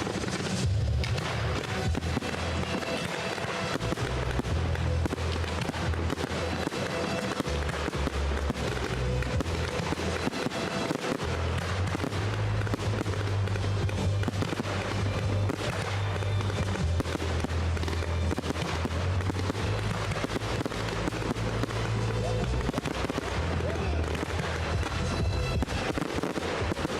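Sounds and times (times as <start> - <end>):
fireworks crackling and banging: 0.0 - 26.9.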